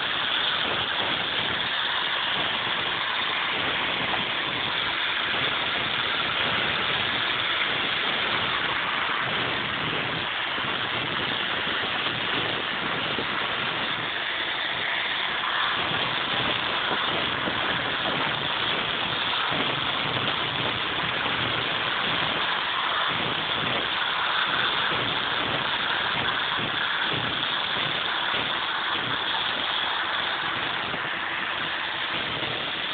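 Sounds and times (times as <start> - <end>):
angle grinder cutting mortar: 0.0 - 32.9.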